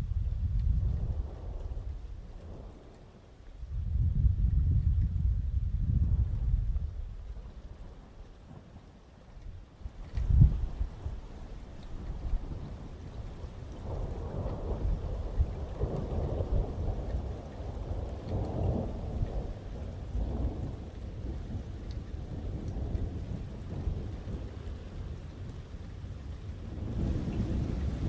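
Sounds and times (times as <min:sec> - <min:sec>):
thunder rumbling: 0:00.0 - 0:08.9, 0:09.9 - 0:28.0
heavy rain: 0:00.0 - 0:28.0.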